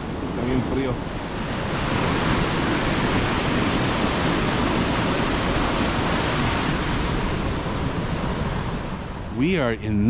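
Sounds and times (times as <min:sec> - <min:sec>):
storm wind rushing: 0:00.0 - 0:09.8
ocean surf: 0:00.0 - 0:10.0.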